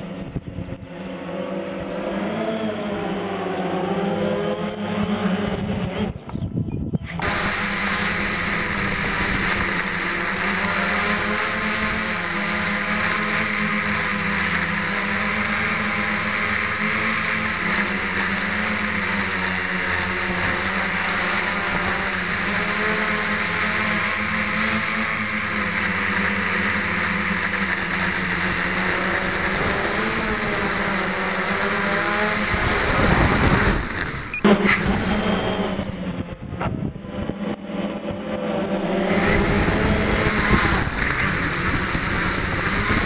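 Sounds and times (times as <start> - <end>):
drone propellers buzzing: 0.0 - 43.0.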